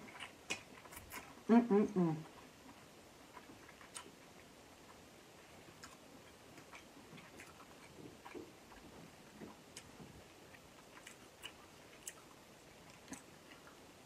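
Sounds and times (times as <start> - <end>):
person chewing: 0.0 - 1.5, 2.2 - 14.0.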